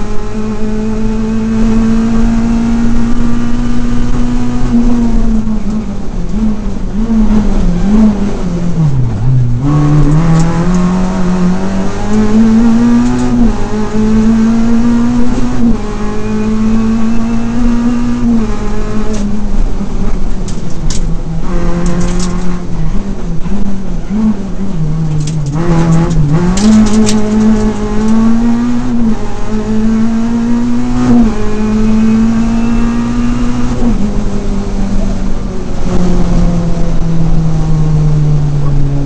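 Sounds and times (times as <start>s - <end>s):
gear upshifts: 0.0s - 39.0s
rally car engine revving: 0.0s - 39.0s.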